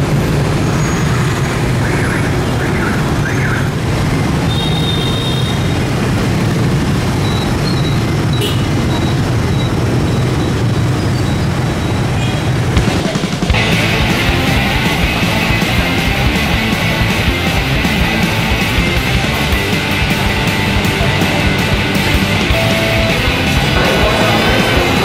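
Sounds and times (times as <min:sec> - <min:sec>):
motorbike engine drone: 0:00.0 - 0:25.0
road noise rush: 0:00.0 - 0:25.0.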